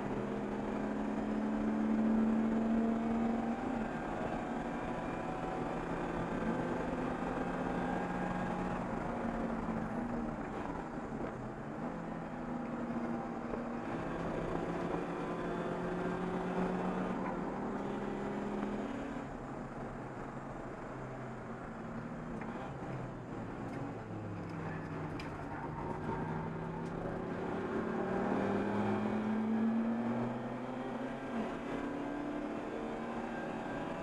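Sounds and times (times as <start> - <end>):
race car engine through gears: 0.0 - 34.0
road and wind noise: 0.0 - 34.0.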